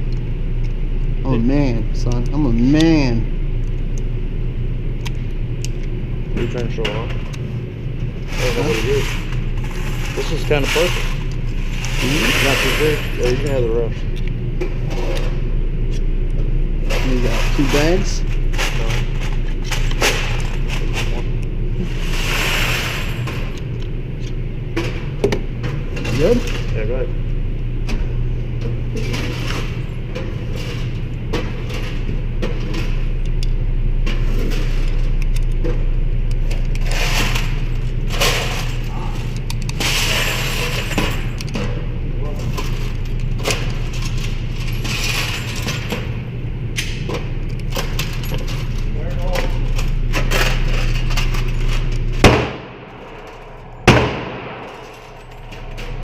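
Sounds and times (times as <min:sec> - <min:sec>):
steady low hum: 0:00.0 - 0:56.0
steady low rumble: 0:00.0 - 0:56.0.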